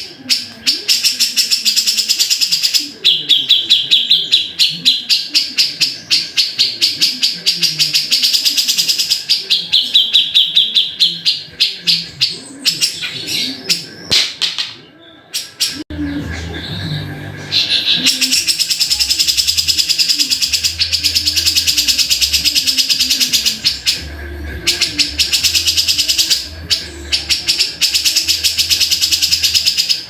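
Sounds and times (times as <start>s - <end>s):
bird chattering song: 0.0s - 14.3s, 15.3s - 30.0s.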